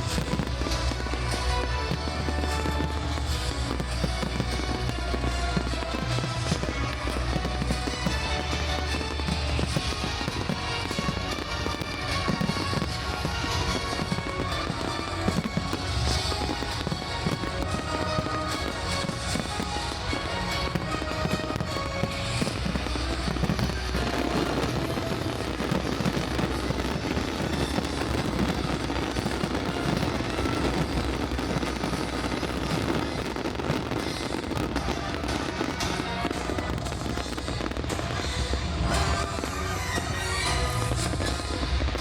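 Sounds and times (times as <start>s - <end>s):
fireworks bangs and crackling: 0.0s - 42.0s
music soundtrack: 0.0s - 42.0s.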